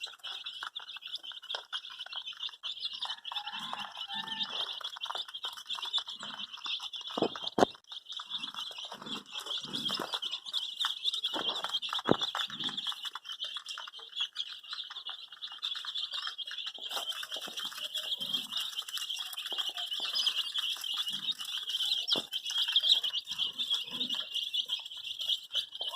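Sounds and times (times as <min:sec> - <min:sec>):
baby chicks peeping: 0:00.0 - 0:25.9.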